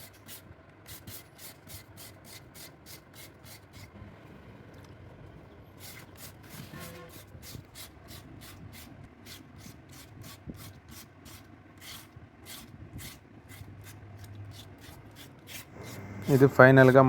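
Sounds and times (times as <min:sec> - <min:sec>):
sandpaper scratching on metal: 0:00.0 - 0:03.9, 0:05.8 - 0:17.0.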